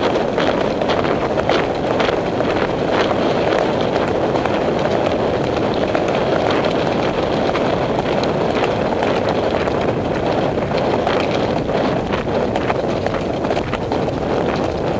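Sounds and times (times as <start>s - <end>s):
hooves clicking on dirt trail: 0.0s - 14.9s
wind buffeting microphone: 0.0s - 14.9s.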